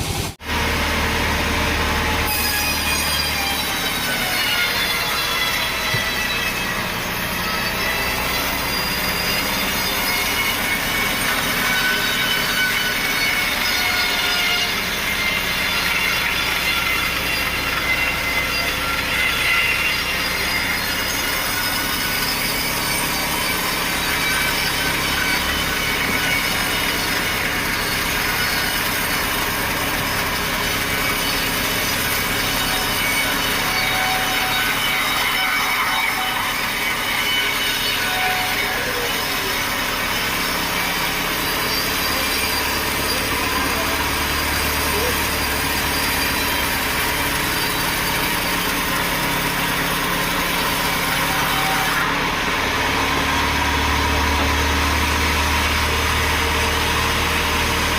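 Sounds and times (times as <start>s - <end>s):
saw cutting through log: 0.0s - 57.9s.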